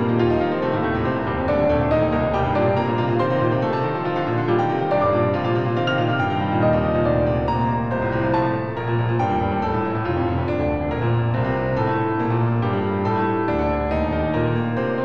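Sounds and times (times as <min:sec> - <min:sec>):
soft slow piano music: 0:00.0 - 0:15.0.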